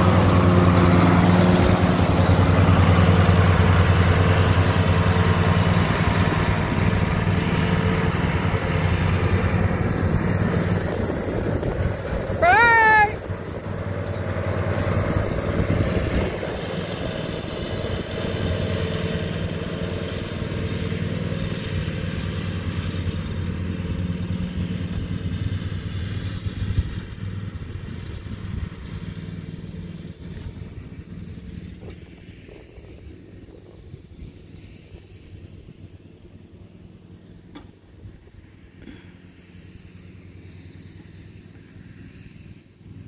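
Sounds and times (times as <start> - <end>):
riding lawn mower engine running: 0.0 - 43.0.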